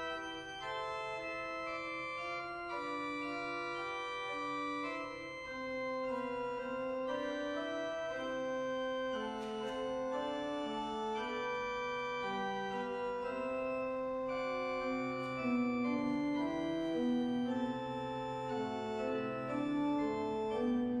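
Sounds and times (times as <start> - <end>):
church organ chords: 0.0 - 21.0.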